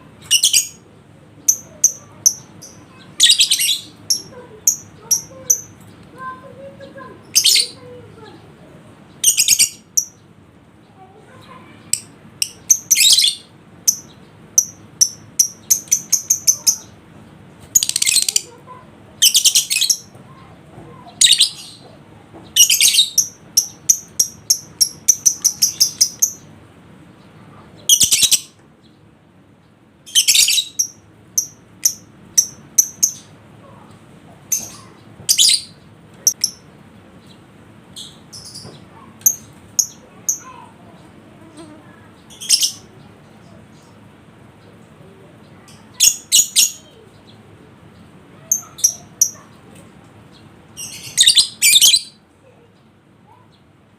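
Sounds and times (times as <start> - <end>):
lovebirds chirping and chattering: 0.0 - 53.9.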